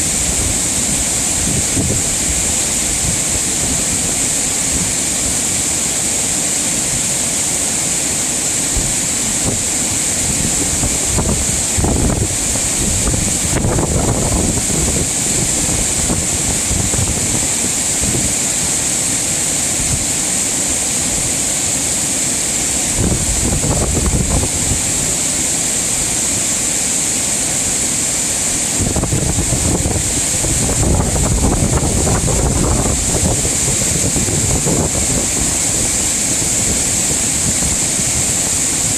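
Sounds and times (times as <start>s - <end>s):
wind rumbling on microphone: 0.0s - 7.4s, 8.0s - 26.8s, 27.5s - 38.9s
stream rushing over rocks: 0.0s - 38.9s.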